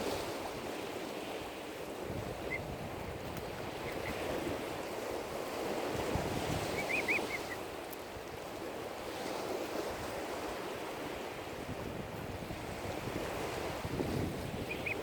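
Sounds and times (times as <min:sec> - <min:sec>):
small waves on a lake: 0:00.0 - 0:15.0
wind: 0:00.0 - 0:15.0.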